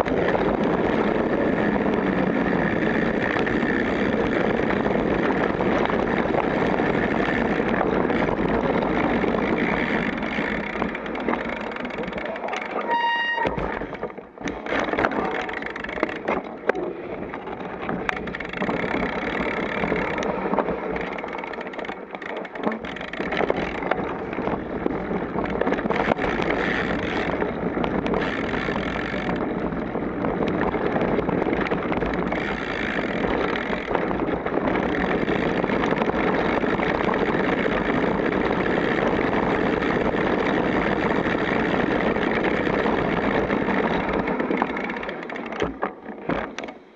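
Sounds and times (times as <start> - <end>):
bike rattling over bumps: 0.0 - 46.9
bike tyre noise on dirt: 0.0 - 46.9
wind rush on microphone: 0.0 - 46.9.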